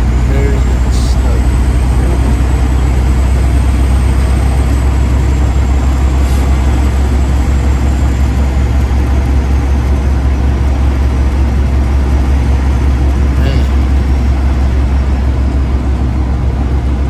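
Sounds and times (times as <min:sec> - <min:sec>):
road noise: 0:00.0 - 0:17.0
truck diesel engine droning: 0:00.0 - 0:17.0.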